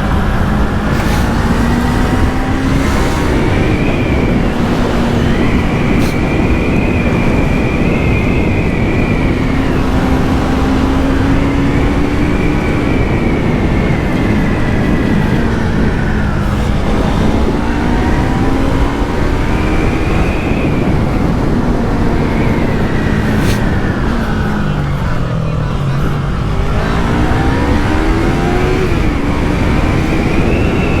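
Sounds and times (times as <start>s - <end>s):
motorcycle engine at high revs: 0.0s - 31.0s
wind rush on microphone: 0.0s - 31.0s.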